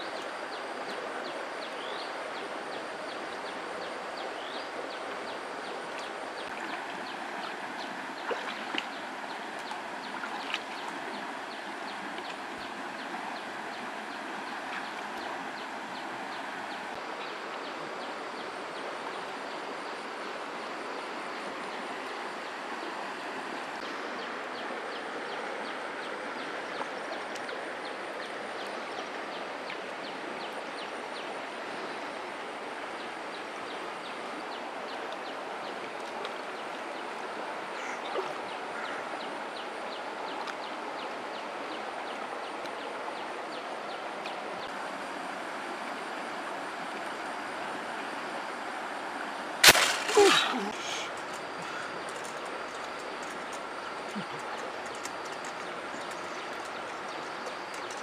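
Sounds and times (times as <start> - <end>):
river flowing over stones: 0.0 - 58.0.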